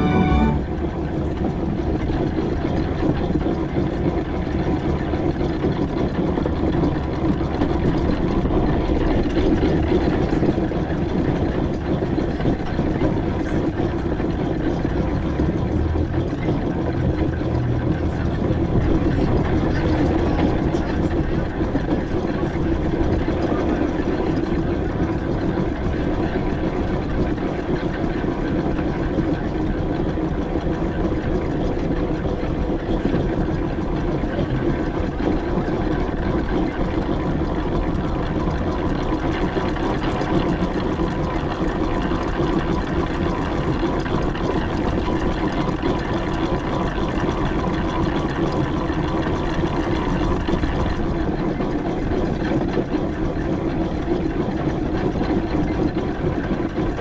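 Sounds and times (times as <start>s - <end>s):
traction engine running: 0.0s - 57.0s.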